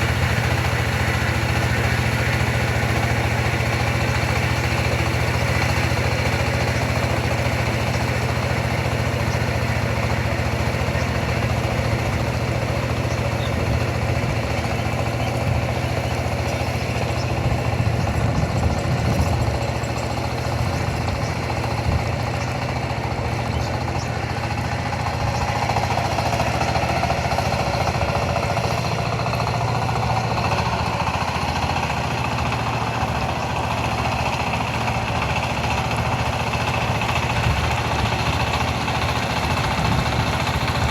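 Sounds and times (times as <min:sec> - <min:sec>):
ploughing machine engine: 0:00.0 - 0:40.9.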